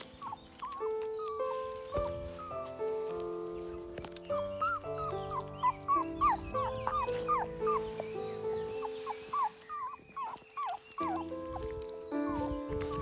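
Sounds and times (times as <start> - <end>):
puppy whimpering: 0.0 - 13.0
soft background music: 0.0 - 13.0.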